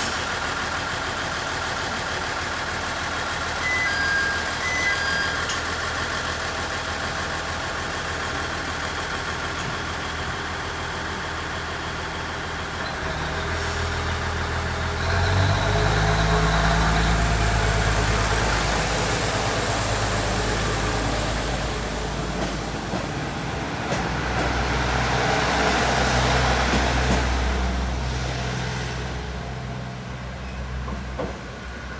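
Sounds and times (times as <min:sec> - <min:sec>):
diesel railcar engine rumbling: 0:00.0 - 0:31.9.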